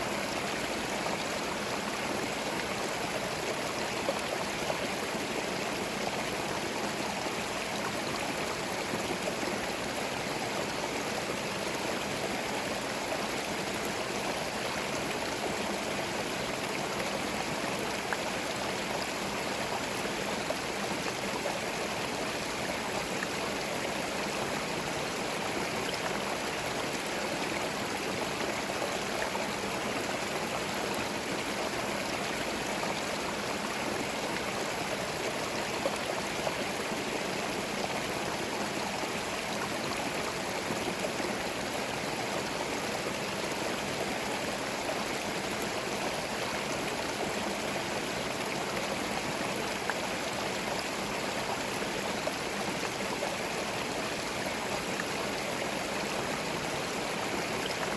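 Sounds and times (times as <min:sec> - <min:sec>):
stream gurgling over stones: 0:00.0 - 0:57.9.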